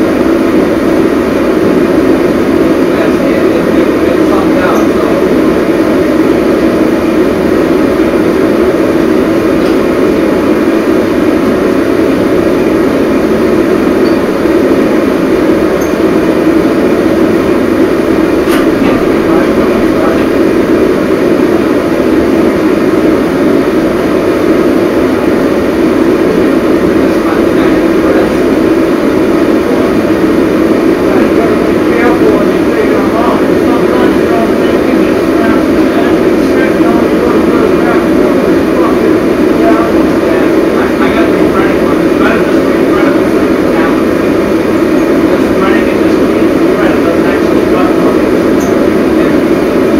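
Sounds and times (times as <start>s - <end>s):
vehicle engine droning: 0.0s - 49.9s.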